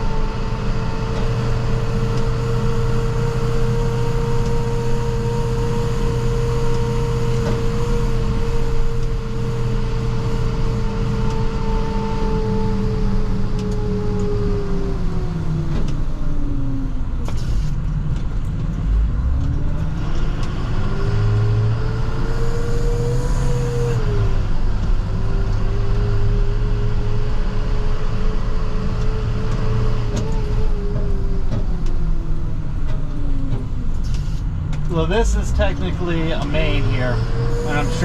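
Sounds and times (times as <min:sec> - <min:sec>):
diesel truck rumble with whine: 0:00.0 - 0:38.0.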